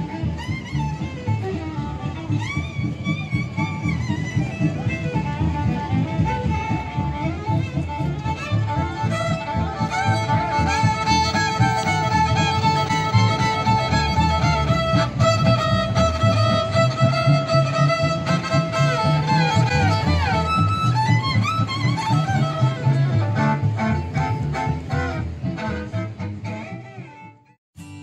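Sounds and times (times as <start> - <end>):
low bass pulse: 0.0 - 26.8
violin long notes: 0.0 - 27.6.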